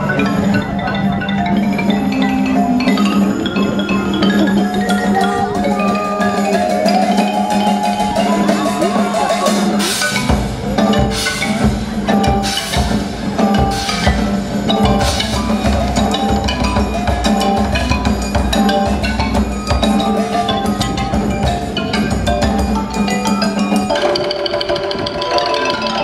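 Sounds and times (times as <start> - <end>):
hand percussion: 0.0 - 26.0
mallet keyboard instruments: 0.0 - 26.0.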